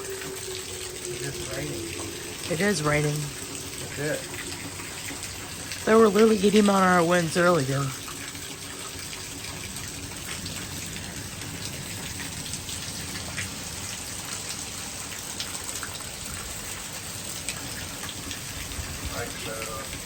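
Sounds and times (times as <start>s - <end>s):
raindrop ticks: 0.0s - 20.0s
steady rain: 0.0s - 20.0s.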